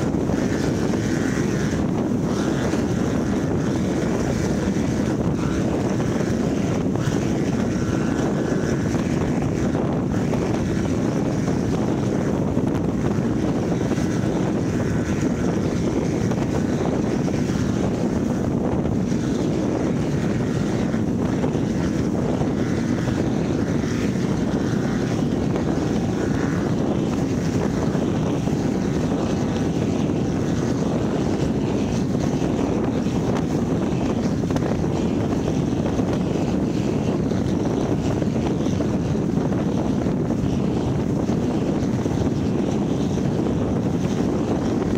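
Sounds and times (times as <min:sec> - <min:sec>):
boat engine drone: 0:00.0 - 0:44.9
wind buffeting microphone: 0:00.0 - 0:44.9.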